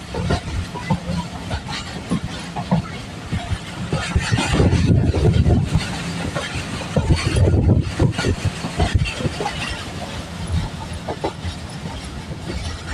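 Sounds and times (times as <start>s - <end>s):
train wheels clattering over rail joints: 0.0s - 12.9s.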